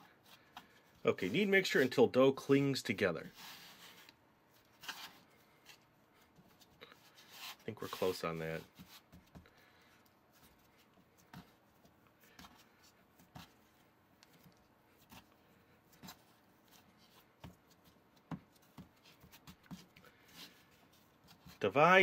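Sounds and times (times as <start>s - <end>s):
hands kneading dough on board: 3.2s - 22.0s.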